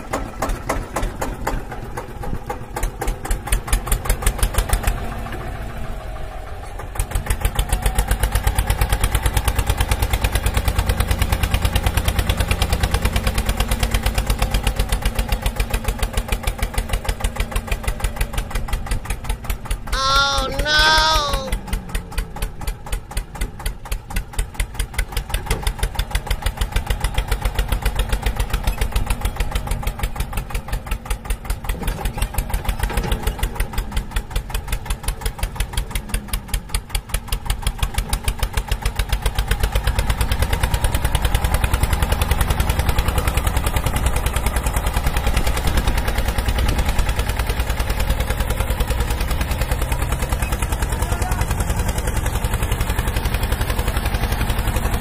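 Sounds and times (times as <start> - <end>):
engine chugging: 0.0 - 55.0.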